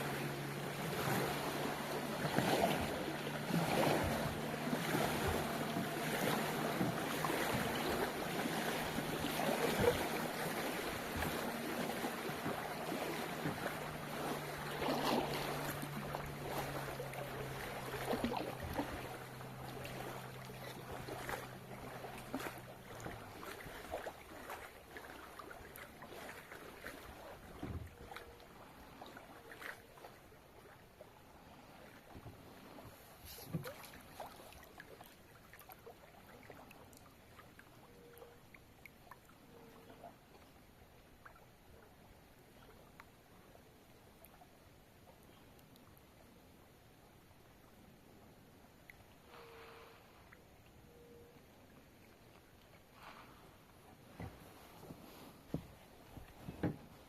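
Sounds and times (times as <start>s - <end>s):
water lapping against hull: 0.0s - 57.0s.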